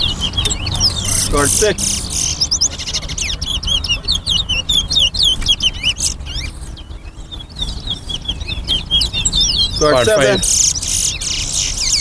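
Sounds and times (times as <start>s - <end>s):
finches singing: 0.0s - 12.0s.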